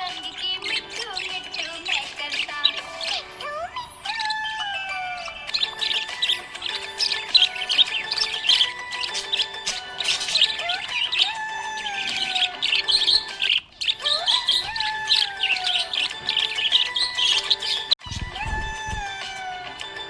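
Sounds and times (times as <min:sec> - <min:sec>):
background music with gliding notes: 0:00.0 - 0:20.0
budgies chirping: 0:00.0 - 0:20.0.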